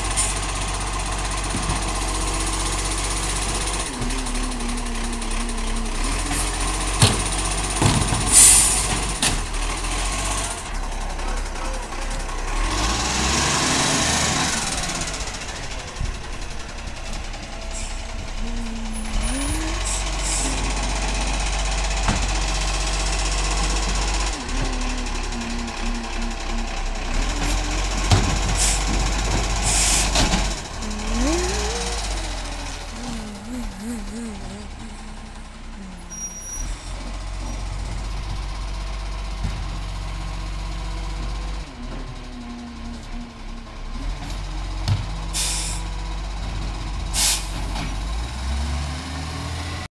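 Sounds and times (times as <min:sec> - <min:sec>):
garbage truck diesel engine rumbling: 0:00.0 - 0:49.9.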